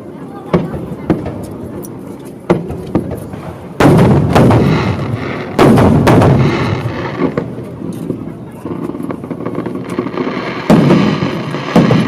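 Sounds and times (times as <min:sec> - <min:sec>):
heavy echoing firework blasts: 0:00.0 - 0:12.0
fireworks bangs: 0:00.2 - 0:12.0.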